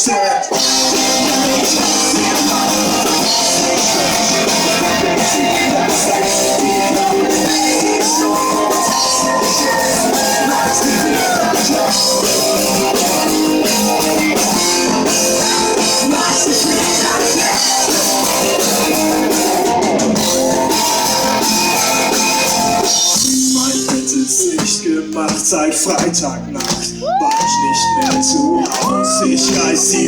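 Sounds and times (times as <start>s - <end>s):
drum kit beat: 0.5s - 30.0s.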